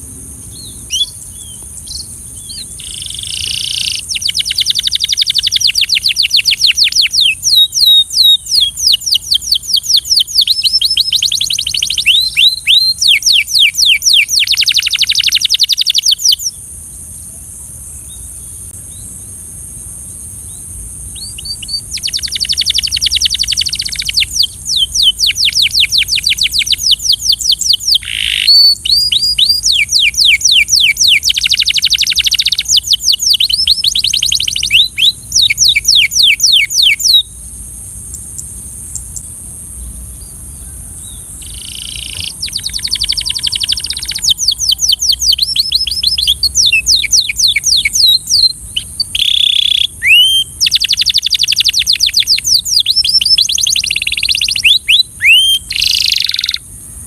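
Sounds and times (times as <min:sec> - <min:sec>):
canary singing fast trills: 0:00.0 - 0:16.7, 0:20.4 - 0:57.0
steady high hiss: 0:00.0 - 0:57.0.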